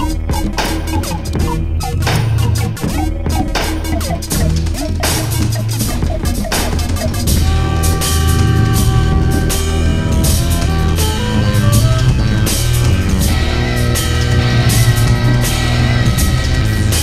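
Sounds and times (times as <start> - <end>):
drum-led dj music: 0.0 - 17.0.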